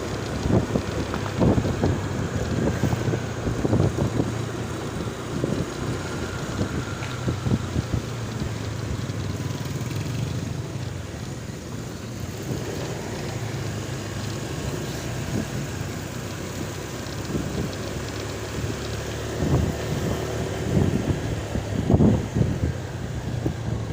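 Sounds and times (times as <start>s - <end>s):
wind noise on microphone: 0.0s - 11.6s, 14.4s - 23.9s
vehicle low rumble: 0.0s - 23.9s.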